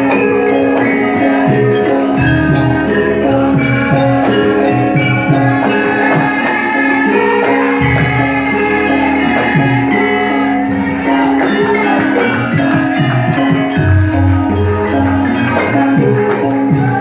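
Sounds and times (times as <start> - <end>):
fast jingling percussion beat: 0.0 - 17.0
singing: 0.0 - 17.0.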